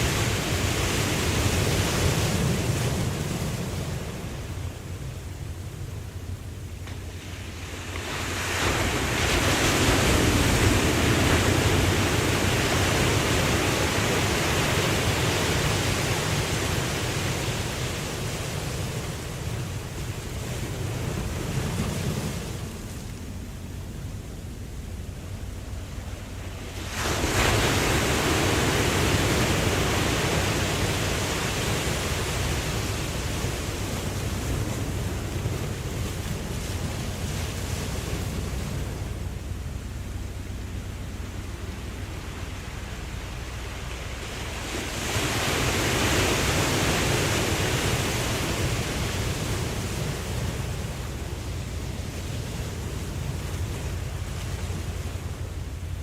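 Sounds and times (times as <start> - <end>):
low rumble of sea: 0.0 - 56.0
wave breaking and washing in: 0.0 - 56.0.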